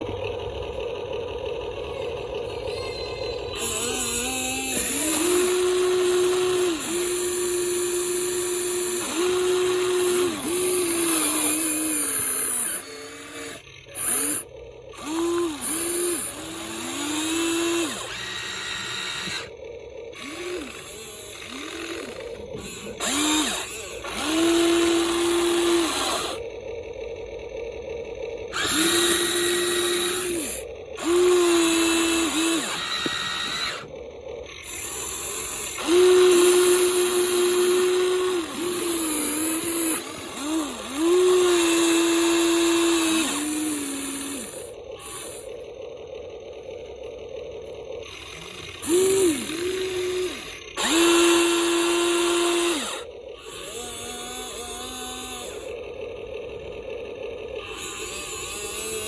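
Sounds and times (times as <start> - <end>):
toy excavator motors whining: 0.0 - 59.0.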